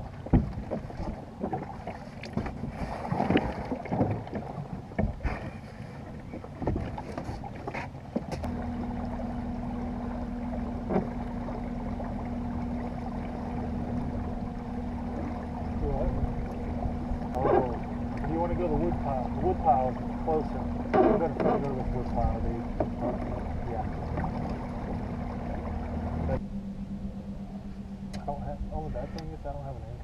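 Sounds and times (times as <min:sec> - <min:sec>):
knocks and clatter in boat: 0:00.0 - 0:26.6
boat motor humming: 0:00.0 - 0:30.0.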